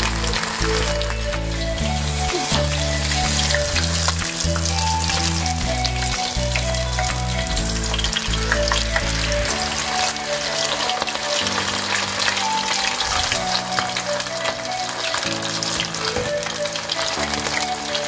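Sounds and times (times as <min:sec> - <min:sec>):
background music: 0:00.0 - 0:18.0
shrimp deep-frying in oil: 0:00.0 - 0:18.0.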